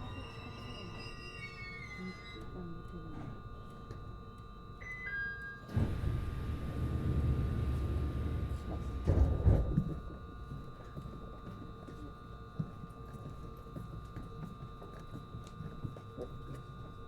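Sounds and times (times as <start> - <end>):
electrical whine of train equipment: 0.0 - 17.0.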